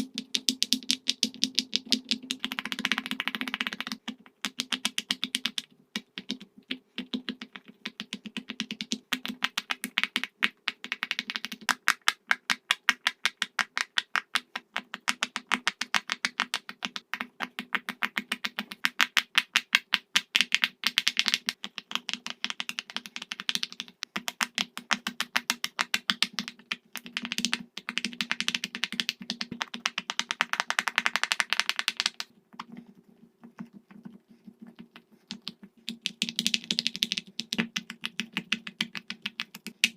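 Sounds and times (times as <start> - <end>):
pop-it toy bubbles popping: 0.0 - 32.8, 34.8 - 39.9.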